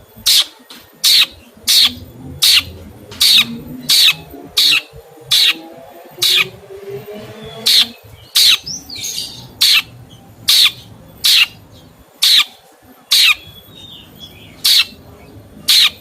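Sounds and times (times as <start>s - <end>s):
bird harsh calls: 0.2s - 16.0s.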